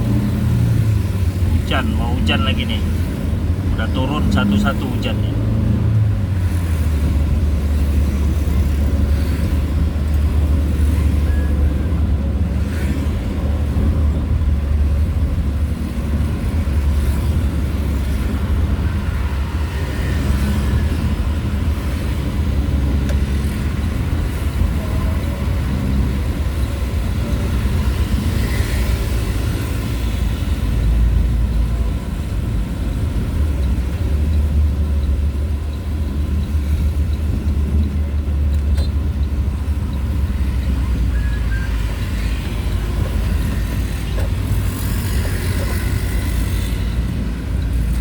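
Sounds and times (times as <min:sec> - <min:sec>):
vehicle engine and road drone: 0:00.0 - 0:48.0.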